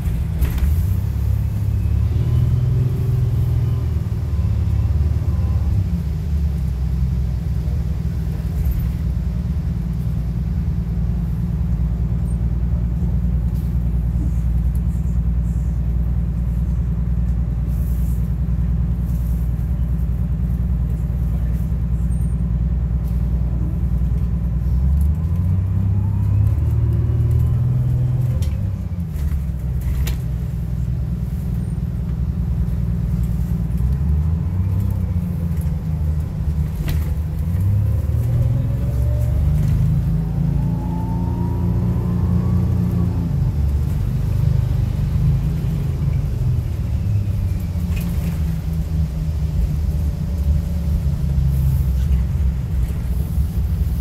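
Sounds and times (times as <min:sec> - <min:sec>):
bus body rattling: 0:00.0 - 0:04.6, 0:06.0 - 0:25.6, 0:26.4 - 0:40.2, 0:42.8 - 0:54.0
bus diesel engine droning: 0:00.0 - 0:54.0.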